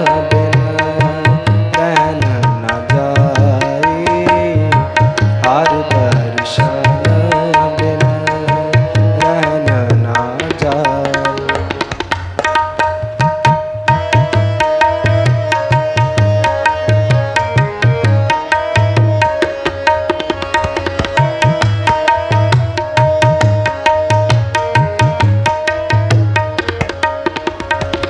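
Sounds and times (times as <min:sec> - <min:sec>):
fast tabla strokes: 0:00.0 - 0:28.0
harmoniums playing melody: 0:00.0 - 0:28.0.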